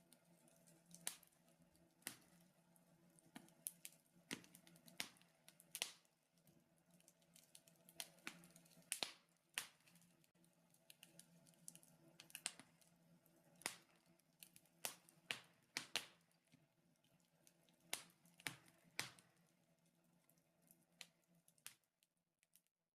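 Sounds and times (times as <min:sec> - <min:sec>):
wood fire crackling: 0:00.0 - 0:22.1.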